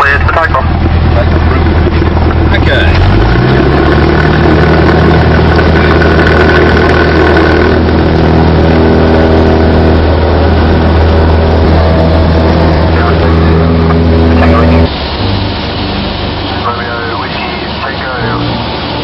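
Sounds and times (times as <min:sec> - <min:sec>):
airplane engine at full throttle: 0:00.0 - 0:19.0.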